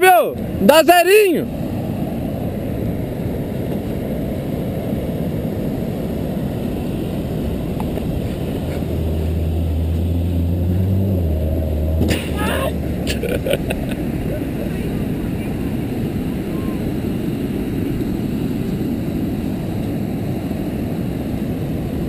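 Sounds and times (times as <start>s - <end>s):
car engine hum: 0.4s - 22.0s
wind rumble on microphone: 1.5s - 22.0s.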